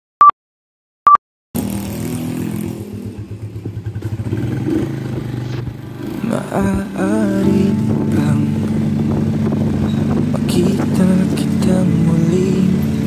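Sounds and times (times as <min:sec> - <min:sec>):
motorcycle engine running: 0:01.6 - 0:13.0.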